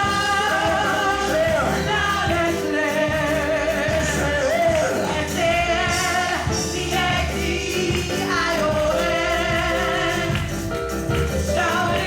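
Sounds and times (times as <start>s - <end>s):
instrumental accompaniment: 0.0s - 12.0s
voices singing gospel: 0.0s - 12.0s.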